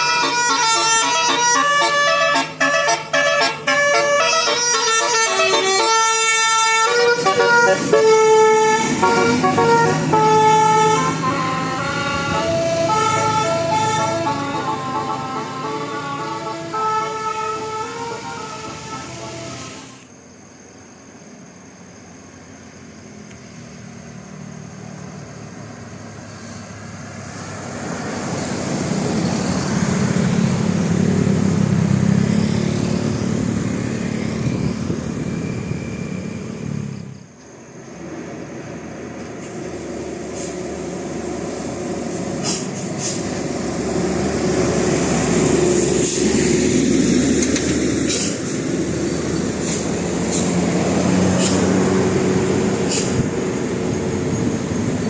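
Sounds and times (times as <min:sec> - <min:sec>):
buses passing: 0:00.0 - 0:55.0.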